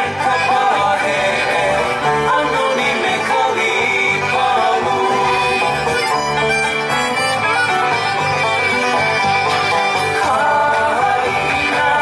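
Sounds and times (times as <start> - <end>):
hula music over loudspeakers: 0.0 - 12.0.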